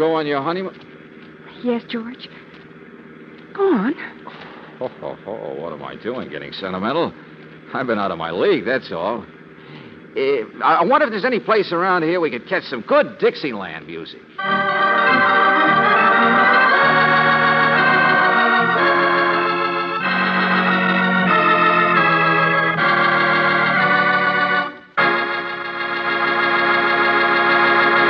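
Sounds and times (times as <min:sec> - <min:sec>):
organ chords: 0:00.0 - 0:28.0.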